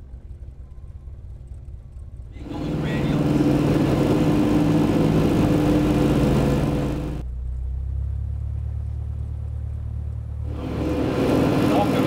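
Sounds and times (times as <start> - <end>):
aircraft engines droning: 0.0 - 12.0.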